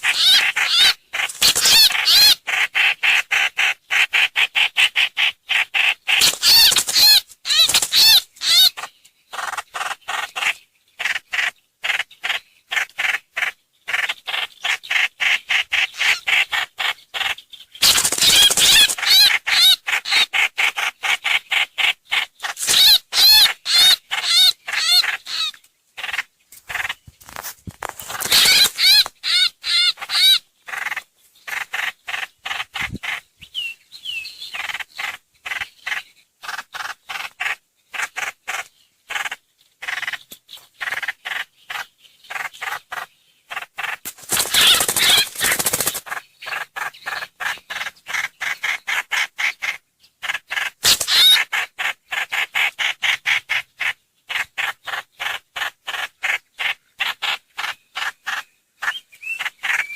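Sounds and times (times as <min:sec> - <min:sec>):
harsh repeated bird calls: 0:00.0 - 0:59.9.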